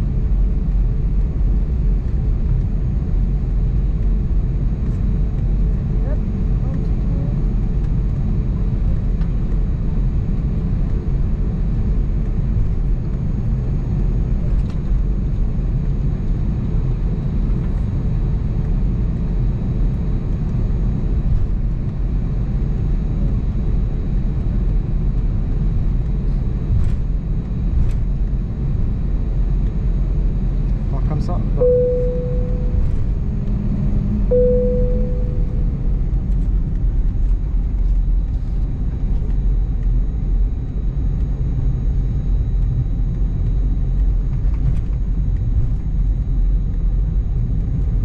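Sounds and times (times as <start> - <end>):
airliner cabin engine drone: 0.0 - 48.0.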